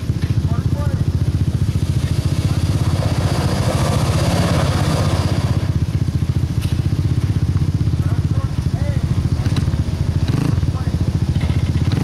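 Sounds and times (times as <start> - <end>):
pickup engine pulsing: 0.0 - 12.0.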